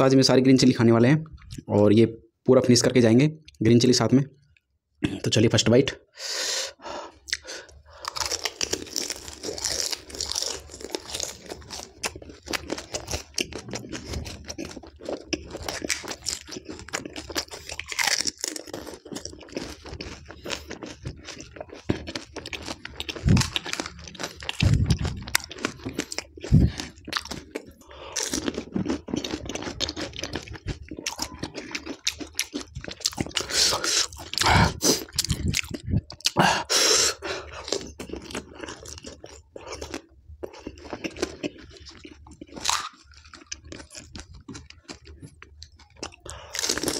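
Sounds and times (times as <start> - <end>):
crunchy chewing: 7.3 - 36.4, 37.1 - 46.9.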